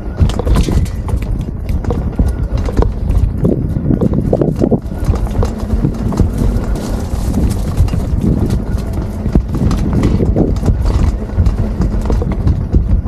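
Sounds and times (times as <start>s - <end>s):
bike clattering over uneven ground: 0.0s - 13.0s
fat tyres rolling: 0.0s - 13.0s
wind rumbling on microphone: 0.0s - 13.0s.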